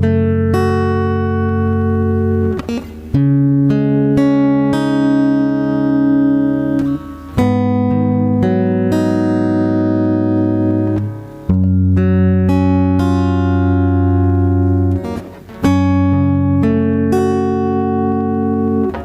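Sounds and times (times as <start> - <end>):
guitar chords backing track: 0.0 - 19.0.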